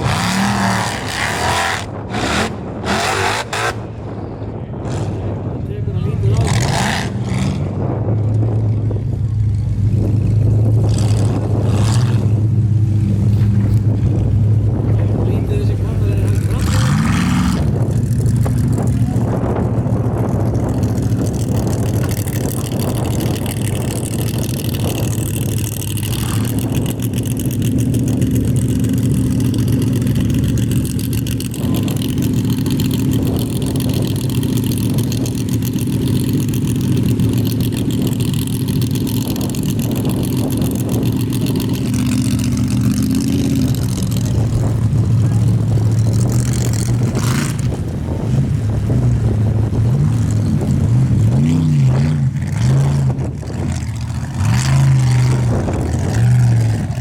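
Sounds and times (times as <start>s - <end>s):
race car engine revving high: 0.0s - 4.0s, 4.8s - 8.0s, 9.7s - 57.0s.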